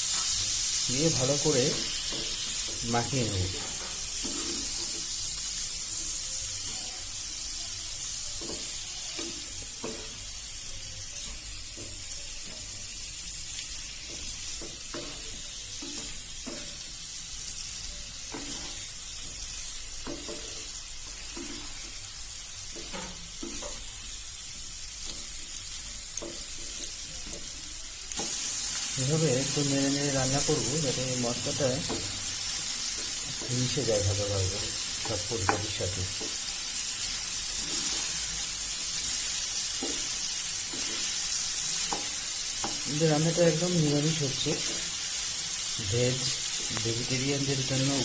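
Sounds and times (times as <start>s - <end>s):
cauliflower sizzling in oil: 0.0s - 48.0s.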